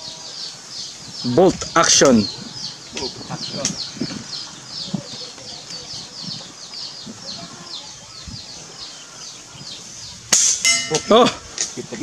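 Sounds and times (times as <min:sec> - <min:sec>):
bird chirping rapidly: 0:00.0 - 0:11.9.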